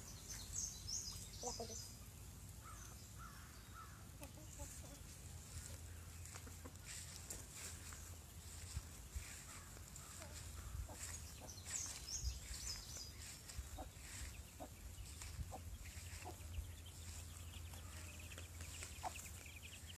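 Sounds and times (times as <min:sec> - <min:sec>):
chicks peeping: 0:00.0 - 0:20.0
hen clucking: 0:00.3 - 0:02.1, 0:03.8 - 0:20.0.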